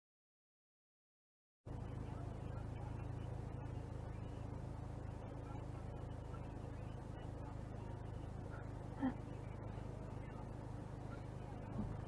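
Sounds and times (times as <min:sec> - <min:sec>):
car engine idling: 0:01.7 - 0:12.0.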